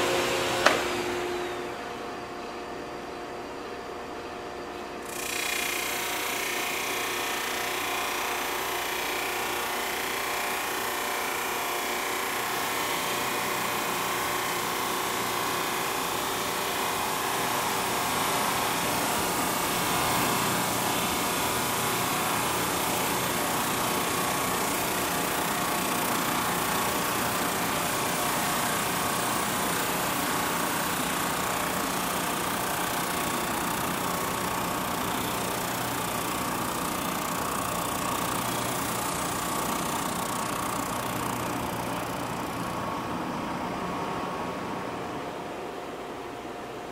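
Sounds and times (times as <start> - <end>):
drum sander running: 0.0 - 45.8.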